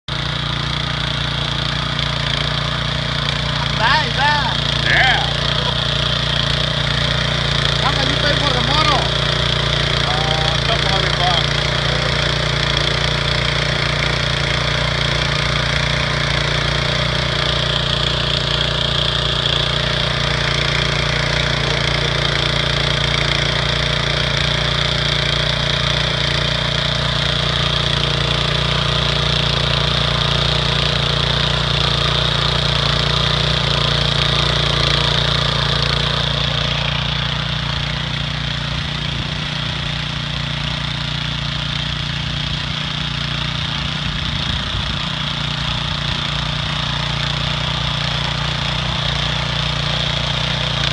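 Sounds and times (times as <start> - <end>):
garden cultivator engine running: 0.1 - 50.9.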